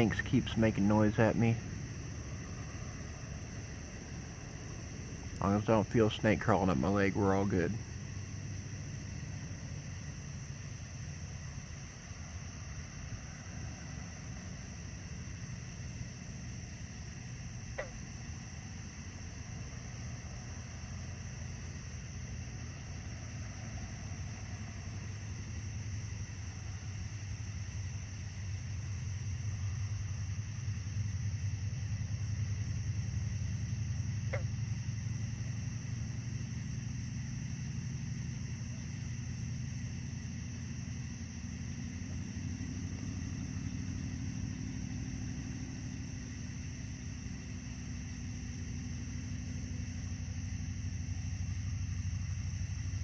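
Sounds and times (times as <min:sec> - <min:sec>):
distant road traffic: 0:00.0 - 0:53.0.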